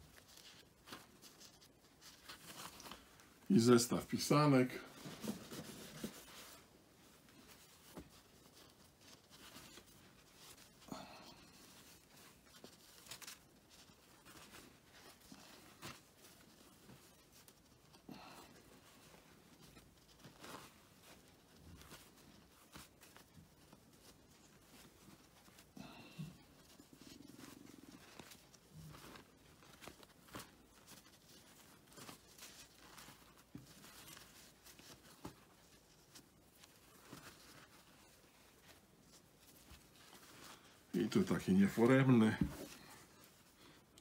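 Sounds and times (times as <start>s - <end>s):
paper napkins rustling: 0.0s - 44.0s.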